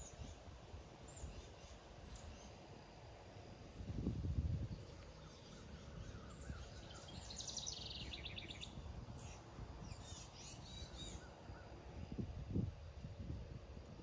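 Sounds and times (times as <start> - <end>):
songbirds chirping: 0.0 - 13.1.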